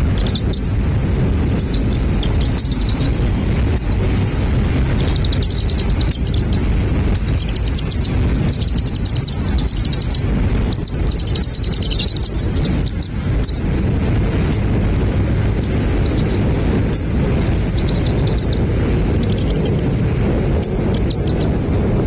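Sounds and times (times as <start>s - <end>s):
bird high chirping: 0.0s - 13.7s, 15.6s - 19.9s, 20.6s - 21.5s
steady low rumble: 0.0s - 22.0s.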